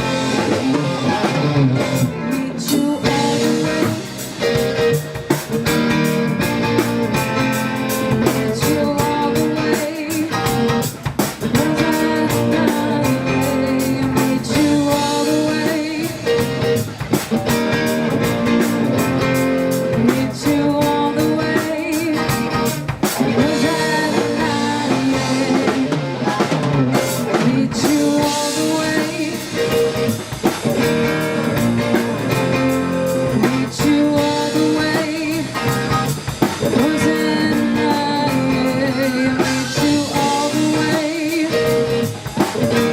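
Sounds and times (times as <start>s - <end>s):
person singing: 0.0s - 4.9s, 5.7s - 16.8s, 19.7s - 30.2s, 33.1s - 42.9s
drum kit: 0.0s - 42.9s
electric guitar: 0.0s - 42.9s
live rock band playing: 0.0s - 42.9s.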